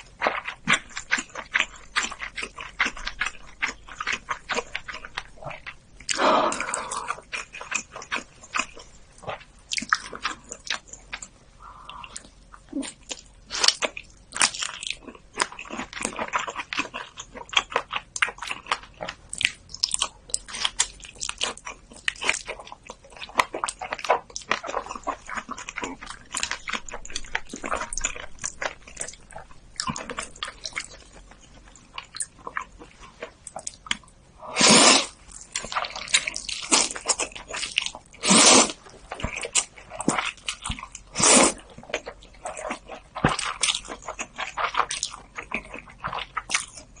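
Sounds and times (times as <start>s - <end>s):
person chewing and biting: 0.0s - 47.0s.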